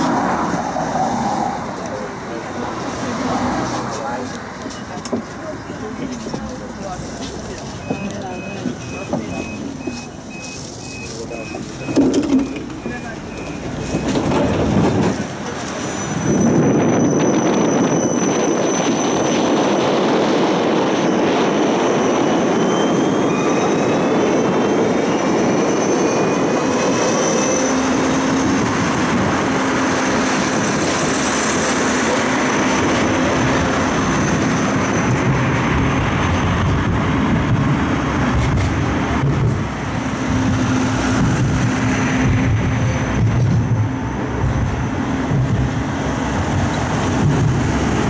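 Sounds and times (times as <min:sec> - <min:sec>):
tram motor whine: 0:00.0 - 0:48.0
wheel-on-rail noise: 0:00.0 - 0:48.0.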